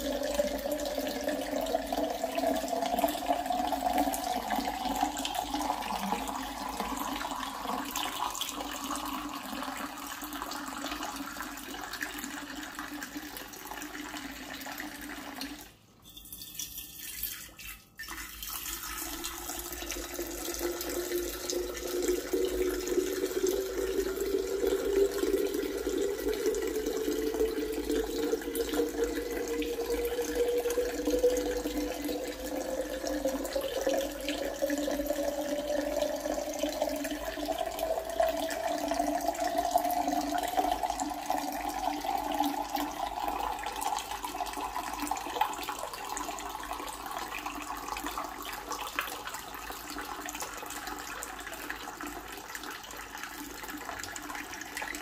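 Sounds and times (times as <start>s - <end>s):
water pouring into a glass jug: 0.0s - 55.0s.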